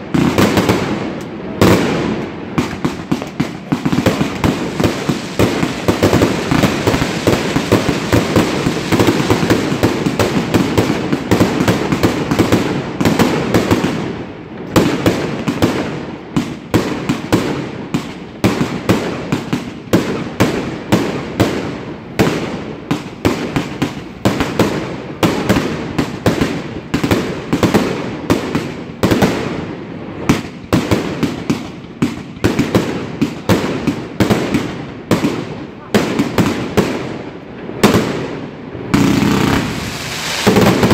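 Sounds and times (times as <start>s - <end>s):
fireworks cake firing bangs: 0.0s - 40.9s.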